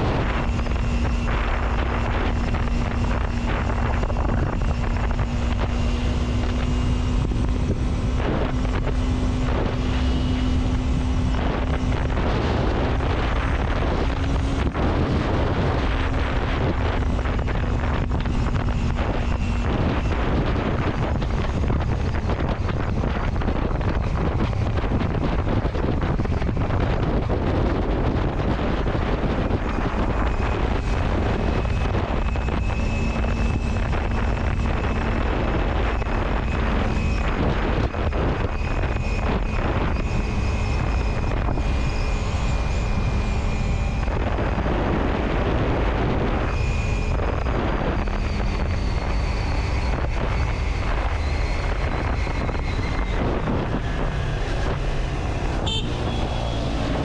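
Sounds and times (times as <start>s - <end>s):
road noise: 0.0s - 57.0s
wind rumbling on microphone: 0.0s - 57.0s.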